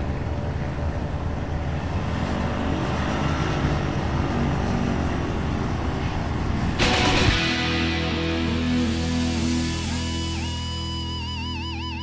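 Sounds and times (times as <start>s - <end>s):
ultralight plane engine and propeller: 0.0s - 7.3s, 8.1s - 12.0s.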